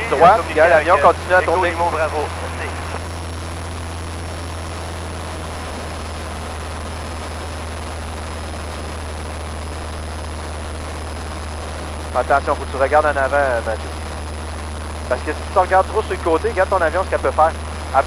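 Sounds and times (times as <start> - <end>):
propeller aircraft engine drone: 0.0 - 18.0.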